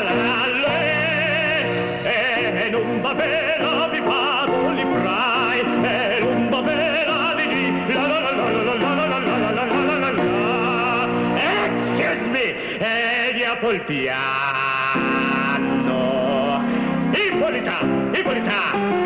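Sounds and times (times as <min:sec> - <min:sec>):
man singing operatically: 0:00.0 - 0:19.0.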